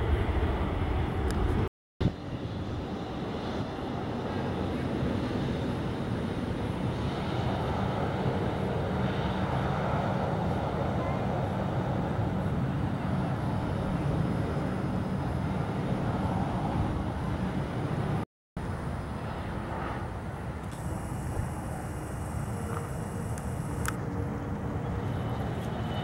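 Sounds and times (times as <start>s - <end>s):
jet engines rumble and hiss: 0.0s - 26.0s.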